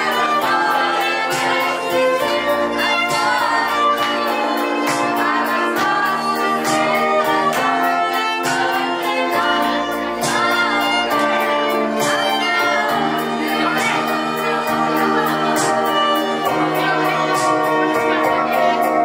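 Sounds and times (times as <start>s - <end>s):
light beat: 0.0s - 19.0s
person singing: 0.0s - 19.0s.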